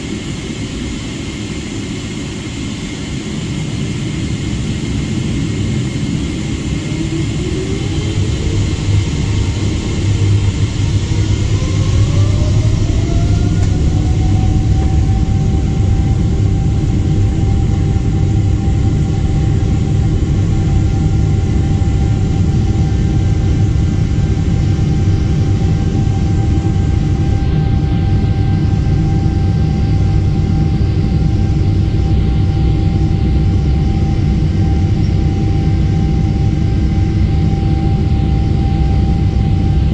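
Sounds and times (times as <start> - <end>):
jet engine whine and rumble: 0.0 - 39.9.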